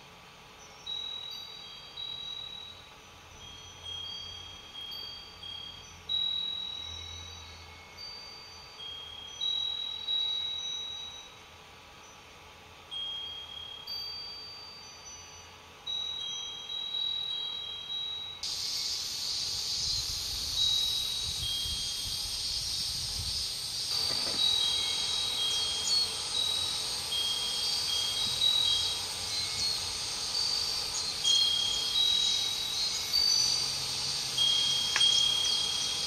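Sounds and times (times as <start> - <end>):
glass wind bell ringing: 0.0 - 36.0
high insect drone: 0.0 - 36.0.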